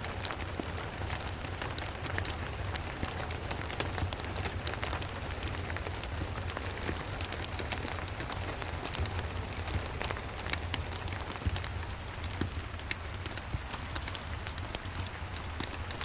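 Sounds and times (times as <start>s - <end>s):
rain falling: 0.0s - 16.0s
wood fire crackling: 0.0s - 16.0s.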